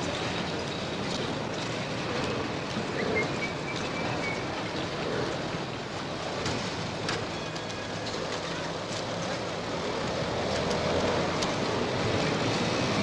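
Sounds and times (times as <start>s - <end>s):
car engines humming: 0.0s - 13.0s.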